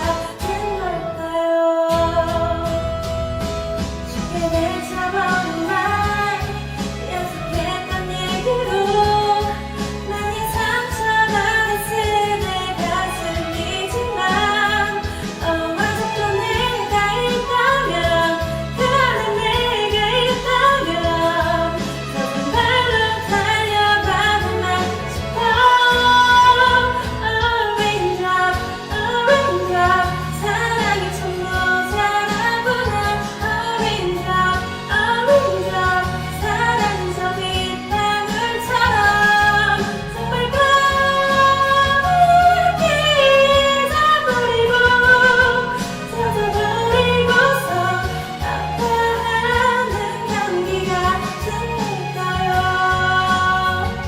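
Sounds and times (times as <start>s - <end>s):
instrumental backing: 0.0s - 54.0s
person singing: 0.0s - 54.0s.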